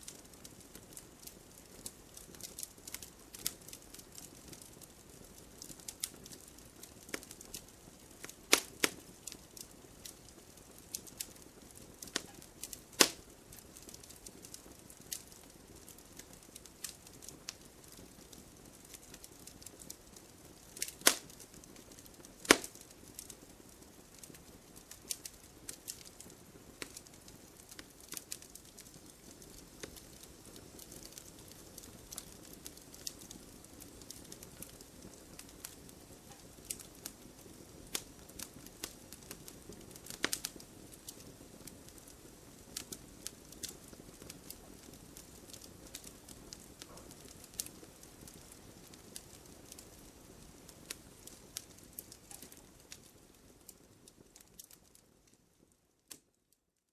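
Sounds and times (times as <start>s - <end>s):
bonfire crackling and popping: 0.0s - 56.5s
faint steady hiss: 0.0s - 56.9s.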